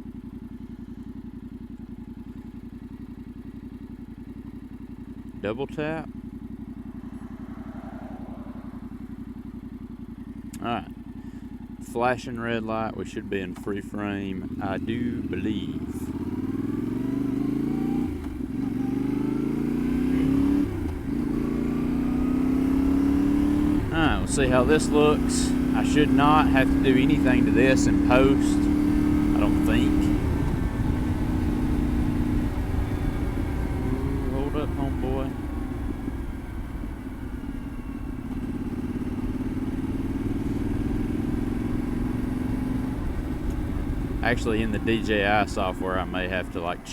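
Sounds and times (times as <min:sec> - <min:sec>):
motorcycle engine accelerating: 0:00.0 - 0:11.9, 0:13.3 - 0:46.9.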